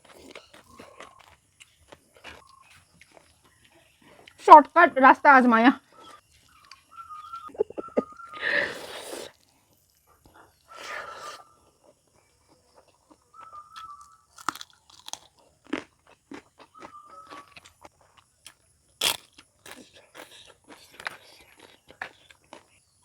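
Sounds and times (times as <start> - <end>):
chewing crisp food: 0.0 - 4.8, 5.8 - 23.0.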